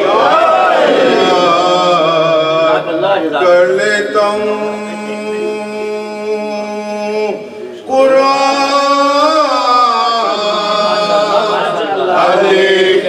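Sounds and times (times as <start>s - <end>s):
man chanting a lament: 1.0s - 13.0s.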